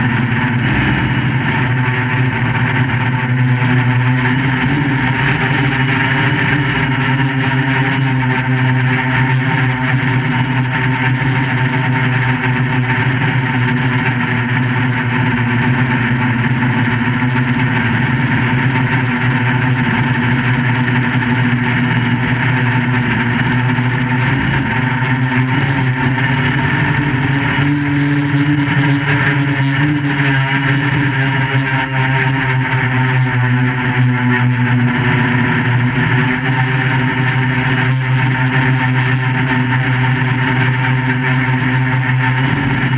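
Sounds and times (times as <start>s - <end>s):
quadcopter motors buzzing: 0.0s - 42.9s.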